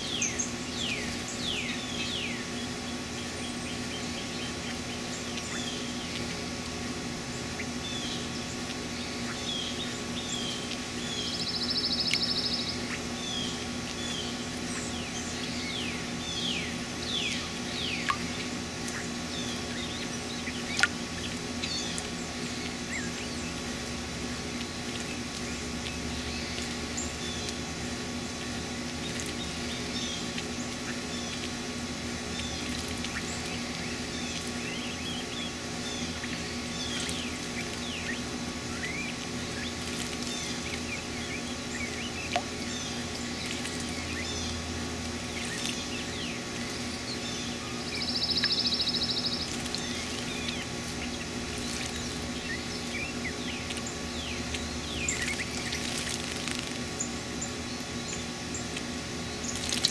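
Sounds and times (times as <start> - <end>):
birds chirping: 0.0 - 59.9
rapid buzzy bird trill: 0.0 - 59.9
steady low hum: 0.0 - 59.9.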